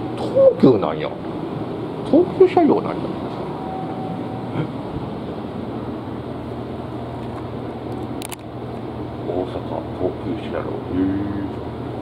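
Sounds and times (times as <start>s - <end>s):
train car hum and rumble: 0.0s - 12.0s.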